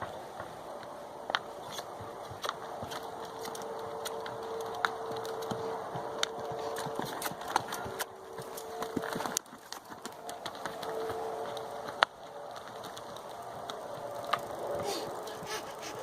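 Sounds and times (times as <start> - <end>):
faint steady hum: 0.0 - 16.0
hooves and tack clicking: 0.0 - 16.0.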